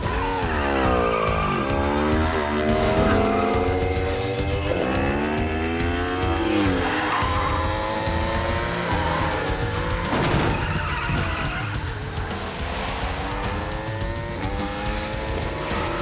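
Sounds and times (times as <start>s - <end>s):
rushing tyre skid: 0.0s - 5.1s, 5.7s - 16.0s
motorcycle engines revving: 0.0s - 16.0s.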